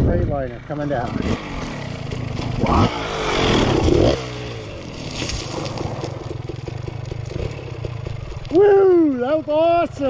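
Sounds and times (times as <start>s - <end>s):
dirt bike engine revving: 0.6s - 10.0s.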